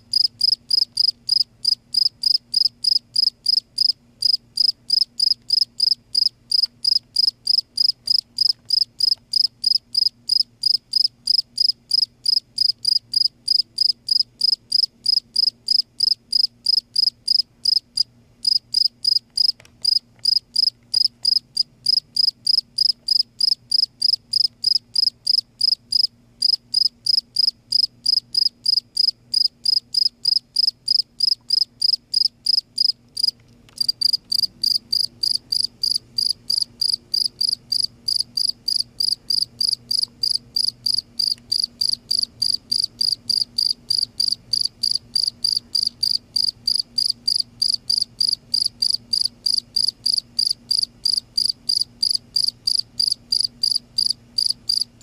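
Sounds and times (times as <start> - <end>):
faint low hum: 0.0 - 55.0
cricket chirping: 0.1 - 54.9.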